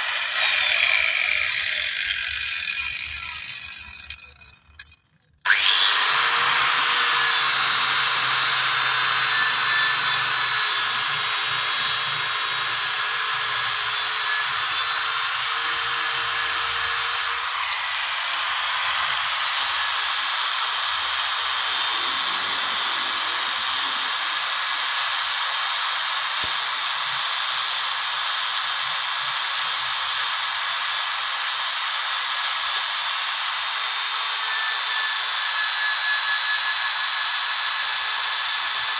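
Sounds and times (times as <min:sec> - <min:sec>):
angle grinder sanding metal: 0:00.0 - 0:38.9.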